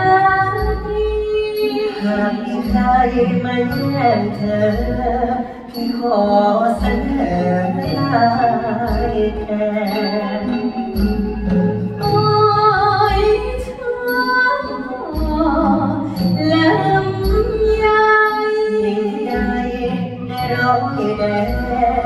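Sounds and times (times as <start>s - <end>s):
person singing: 0.0s - 22.0s.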